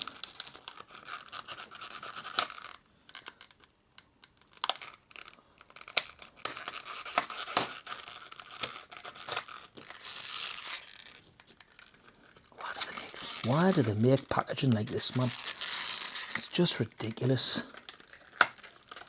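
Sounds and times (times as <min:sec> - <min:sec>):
plastic packaging crackling: 0:00.0 - 0:19.0
plastic rustling: 0:00.0 - 0:19.0.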